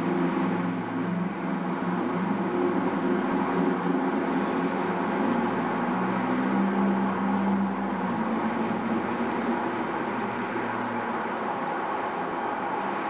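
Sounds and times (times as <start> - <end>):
cars passing: 0.0 - 13.0
engine hum: 0.0 - 13.0.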